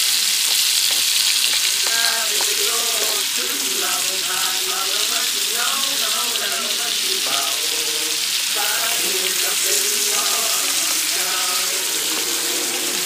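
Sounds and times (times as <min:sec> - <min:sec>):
food sizzling in a pan: 0:00.0 - 0:13.0
song with singing voice: 0:01.6 - 0:13.0.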